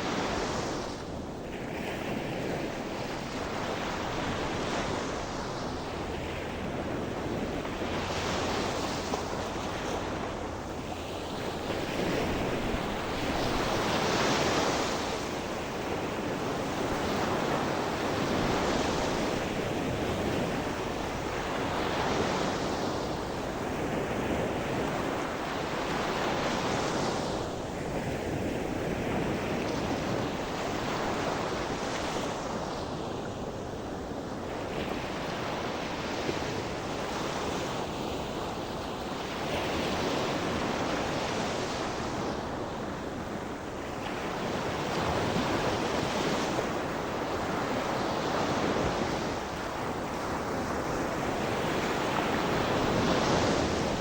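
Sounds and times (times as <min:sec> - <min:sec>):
waves breaking on shore: 0:00.0 - 0:54.0
wind on microphone: 0:00.0 - 0:54.0.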